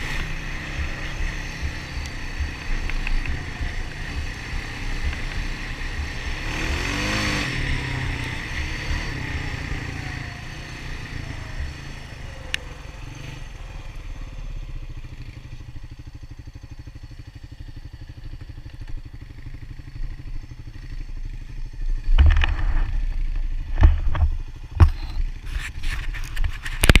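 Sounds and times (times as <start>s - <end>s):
engine idling with low putter: 0.0s - 27.0s.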